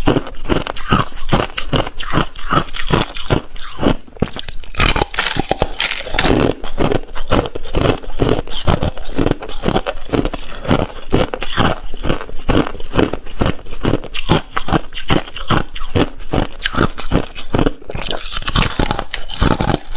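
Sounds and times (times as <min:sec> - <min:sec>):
ice being chewed: 0:00.0 - 0:19.9.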